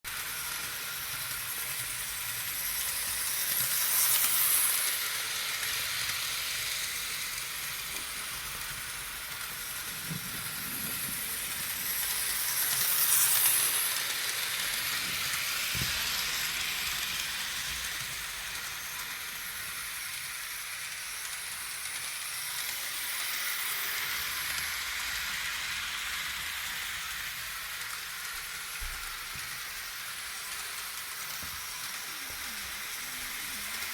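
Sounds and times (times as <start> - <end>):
model train wheels and motor rattling: 0.1 - 33.9.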